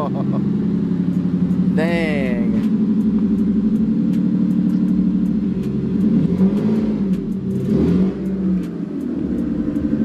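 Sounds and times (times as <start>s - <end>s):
race car engine idling and revving: 0.0s - 10.0s.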